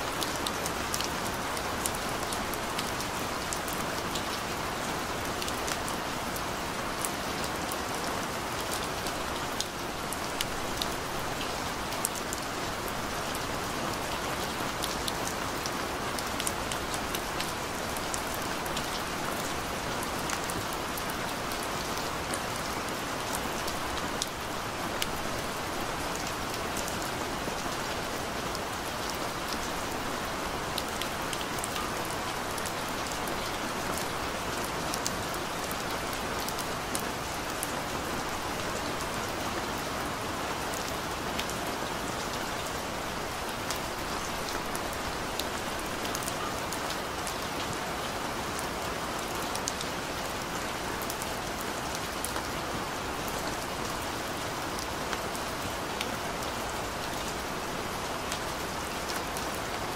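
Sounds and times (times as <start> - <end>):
gentle rain falling: 0.0 - 59.9.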